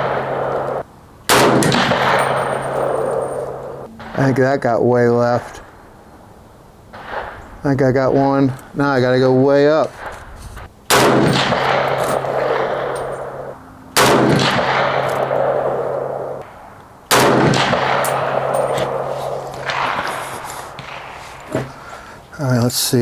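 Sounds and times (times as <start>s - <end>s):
rifle shots with echo: 0.0s - 22.3s.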